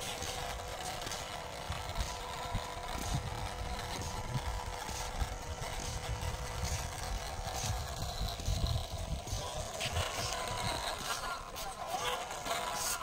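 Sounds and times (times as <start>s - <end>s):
toy car electric motor whining: 0.0s - 13.0s
wheels rumbling on pavement: 0.0s - 13.0s.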